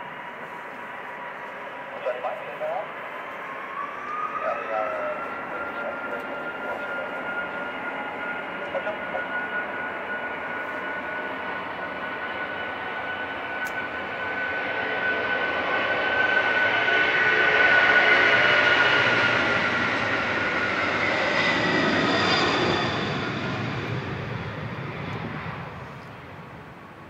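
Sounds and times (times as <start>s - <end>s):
jet engines at takeoff: 0.0s - 27.0s.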